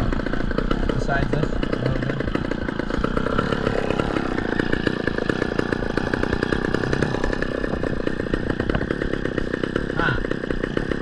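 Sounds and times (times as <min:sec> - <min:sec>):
chainsaw running at high speed: 0:00.0 - 0:11.0.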